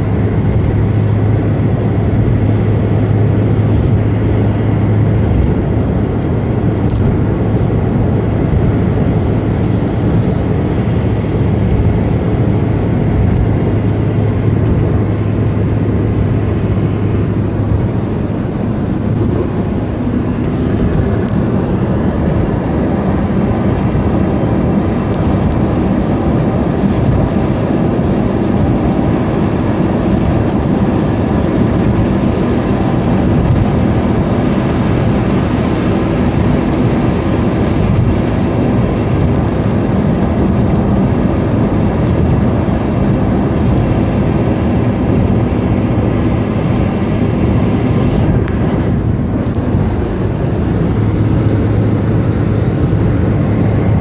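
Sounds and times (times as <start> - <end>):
low engine hum: 0.0 - 54.0
tyre and wind road noise: 0.0 - 54.0.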